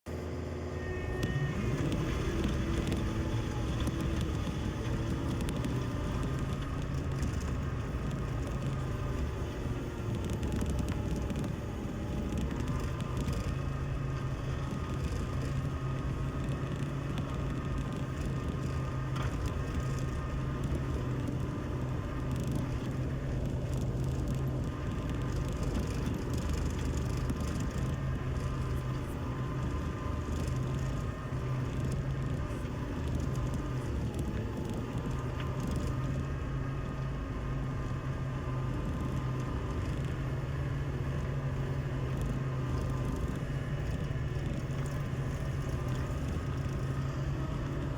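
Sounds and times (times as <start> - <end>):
diesel engine running under load: 0.1 - 47.9.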